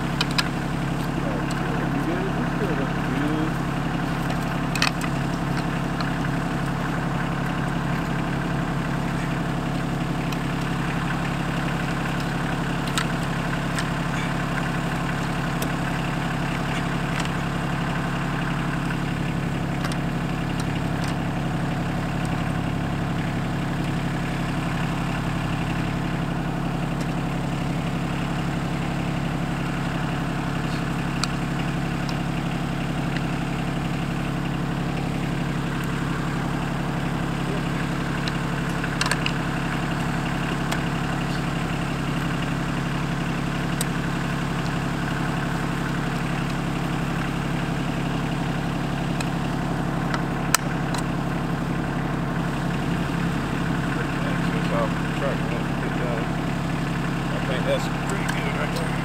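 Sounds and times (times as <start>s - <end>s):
diesel tractor idling: 0.0s - 59.0s.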